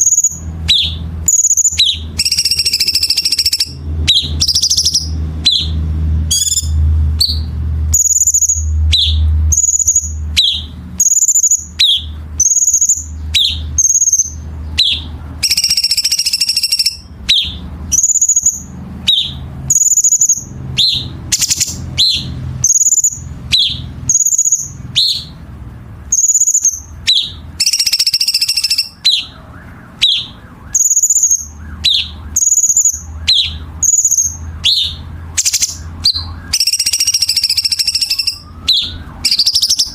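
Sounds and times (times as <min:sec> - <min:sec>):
bird singing sharp phrases: 0:00.0 - 0:39.9
harsh rasping bird notes: 0:00.0 - 0:39.9.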